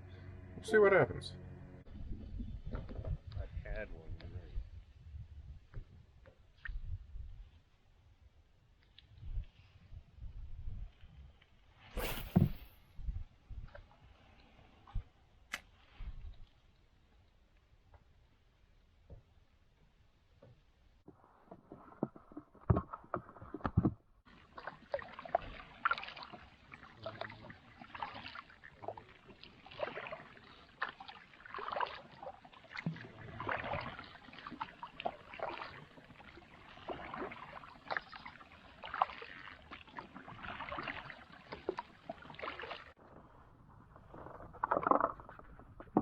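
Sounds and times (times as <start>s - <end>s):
water splashing around kayak: 1.8s - 19.2s, 21.0s - 46.0s.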